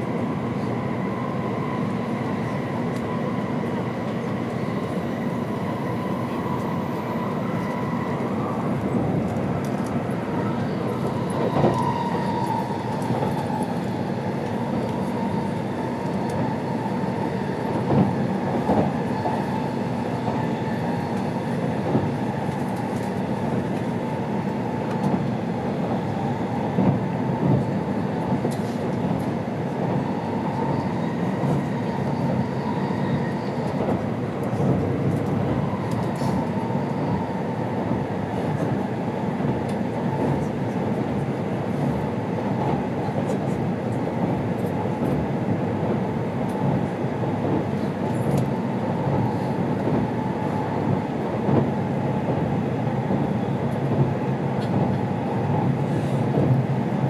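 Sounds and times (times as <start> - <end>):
train interior rumble and hiss: 0.0 - 57.0.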